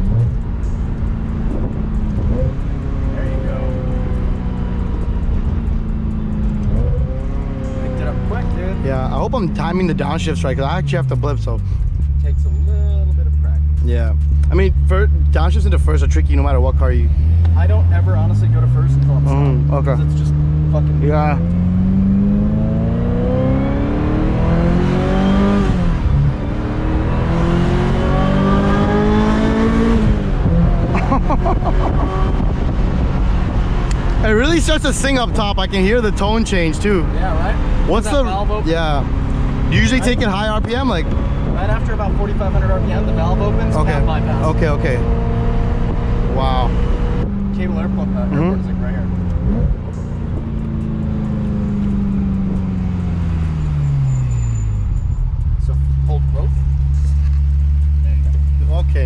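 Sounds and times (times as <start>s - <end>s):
sports car engine accelerating: 0.0s - 59.0s.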